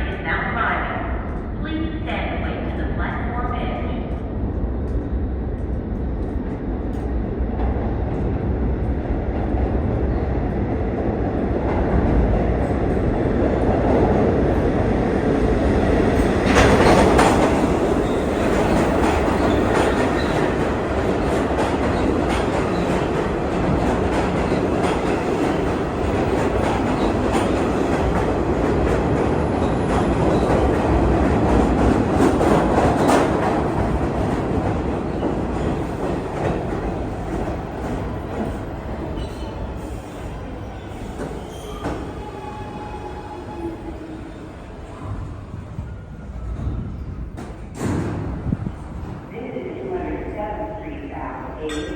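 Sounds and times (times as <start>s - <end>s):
train rumble: 0.0s - 51.9s.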